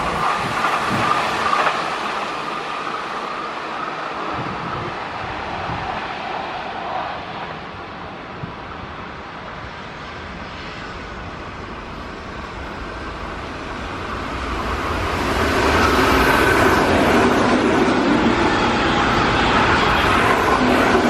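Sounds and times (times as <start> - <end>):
train rumbling and rail noise: 0.0 - 21.0.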